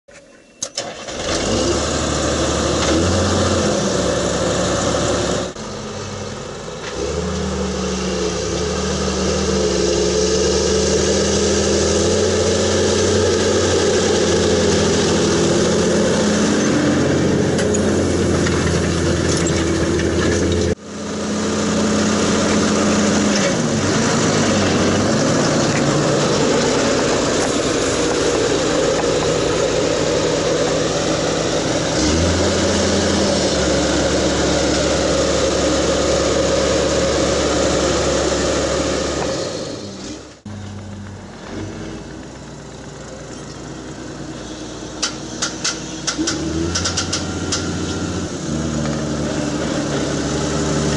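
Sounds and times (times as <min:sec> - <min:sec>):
tractor diesel engine under load: 0:00.2 - 0:50.9.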